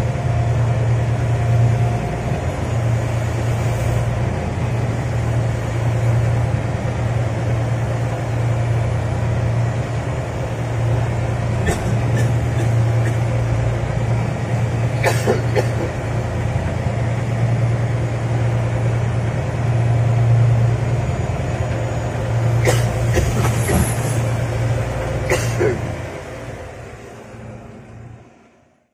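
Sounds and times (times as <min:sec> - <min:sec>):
constant rushing noise: 0:00.0 - 0:28.6
boat engine humming: 0:00.0 - 0:28.7.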